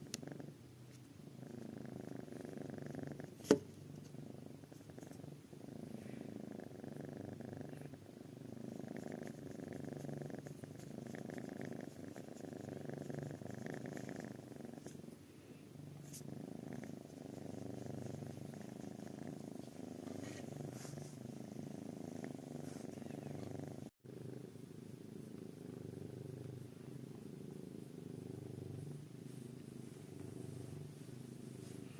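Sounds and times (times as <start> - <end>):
kitten purring: 0.0 - 31.9.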